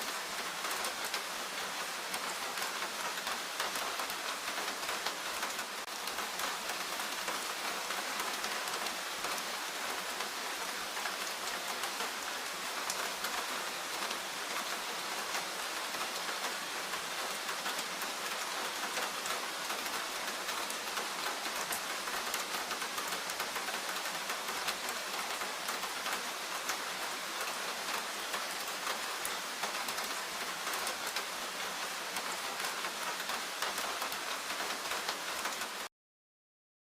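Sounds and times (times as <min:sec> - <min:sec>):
rain falling on leaves: 0:00.0 - 0:35.9.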